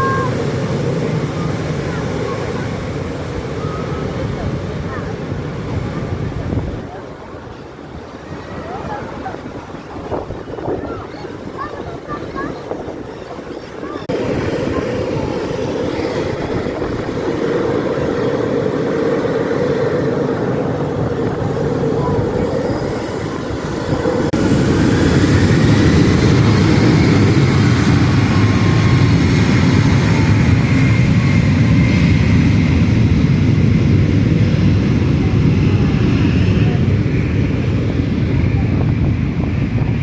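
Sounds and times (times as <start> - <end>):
airplane engine noise: 0.0 - 40.0.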